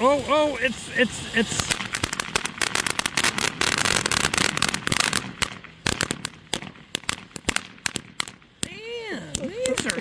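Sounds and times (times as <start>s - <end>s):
firework fountain crackling: 0.0s - 10.0s.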